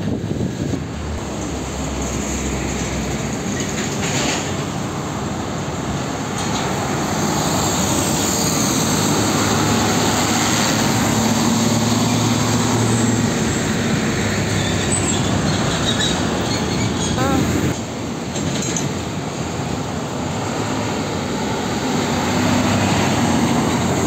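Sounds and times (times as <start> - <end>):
truck engine drone: 0.0 - 24.0
tyre and road rumble: 0.0 - 24.0.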